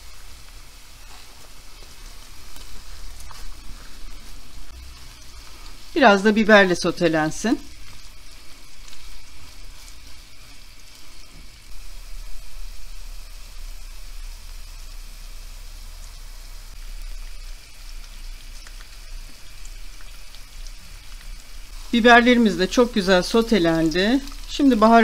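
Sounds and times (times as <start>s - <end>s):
vegetables sizzling in a frying pan: 0.0s - 25.0s.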